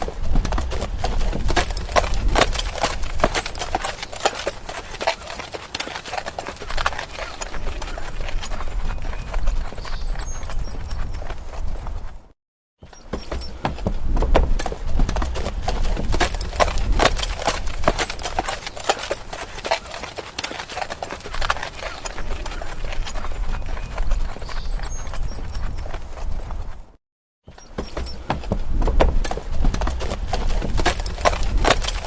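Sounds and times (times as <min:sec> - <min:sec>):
horse hooves clip-clopping: 0:00.0 - 0:32.0.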